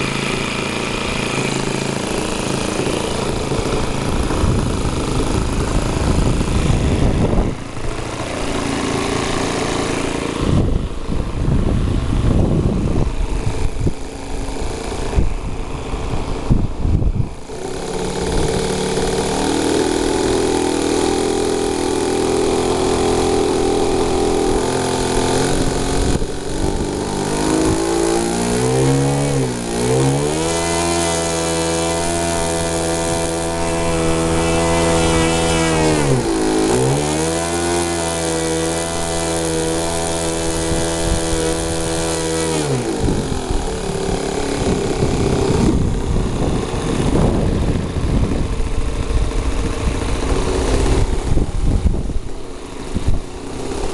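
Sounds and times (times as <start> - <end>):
model airplane engine: 0.0 - 53.9.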